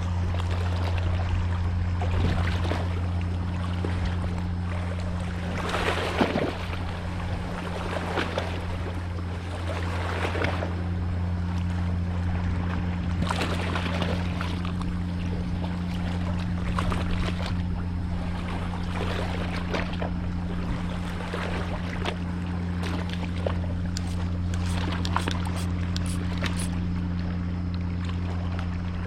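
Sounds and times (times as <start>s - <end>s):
boat engine humming: 0.0s - 29.0s
water noise: 0.0s - 29.0s.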